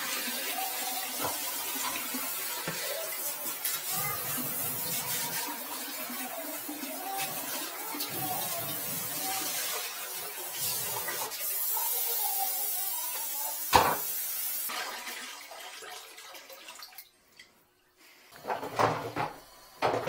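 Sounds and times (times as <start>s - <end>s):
water running in washbasin: 0.0s - 20.0s.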